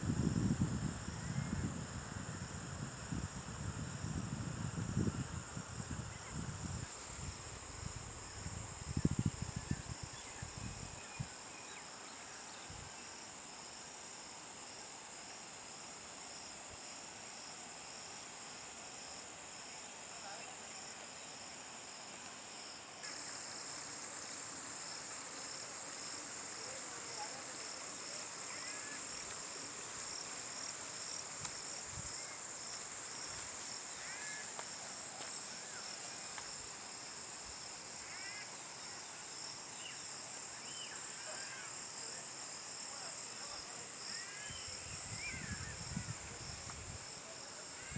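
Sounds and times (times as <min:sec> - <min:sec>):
crickets and insects trilling: 0:00.0 - 0:47.9.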